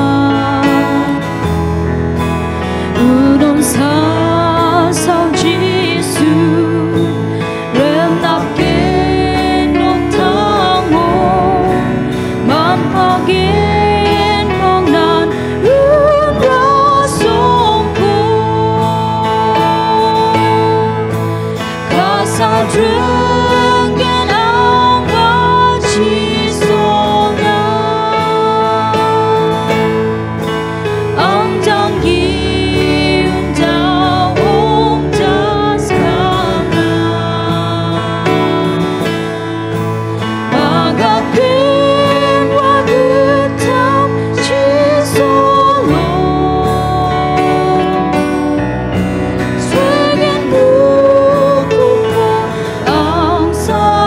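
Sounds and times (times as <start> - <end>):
man and woman singing a hymn: 0.0 - 1.5, 2.8 - 54.0.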